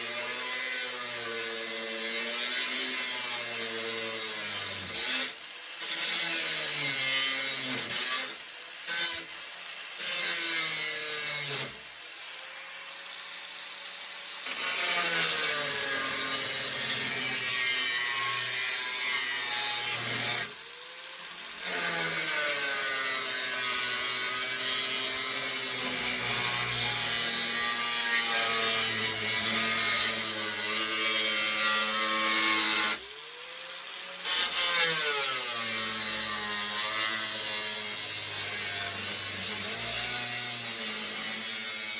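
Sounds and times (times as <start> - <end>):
power tool cutting sheet steel: 0.0 - 41.9.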